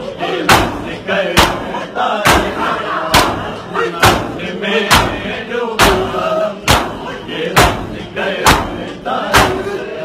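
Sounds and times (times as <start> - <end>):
voices chanting: 0.0 - 10.0
people slapping their chests: 0.3 - 9.9.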